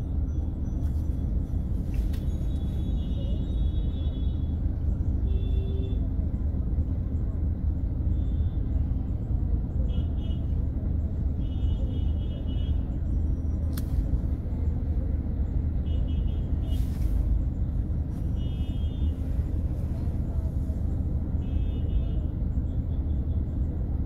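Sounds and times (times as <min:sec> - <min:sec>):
vehicle driving rumble: 0:00.0 - 0:24.0.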